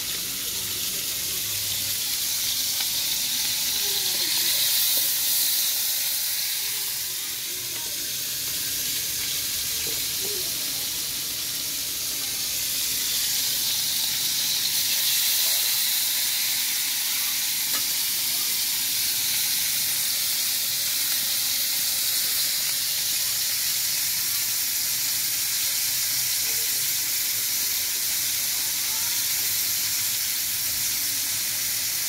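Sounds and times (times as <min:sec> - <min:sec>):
fish sizzling in oil: 0:00.0 - 0:32.0.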